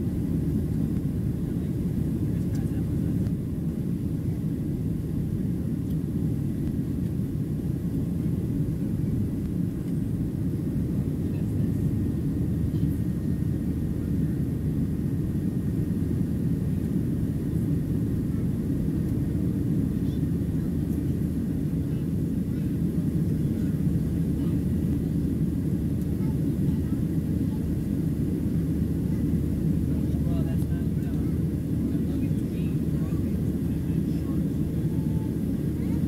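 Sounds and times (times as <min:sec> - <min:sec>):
airplane cabin engine rumble: 0:00.0 - 0:36.0.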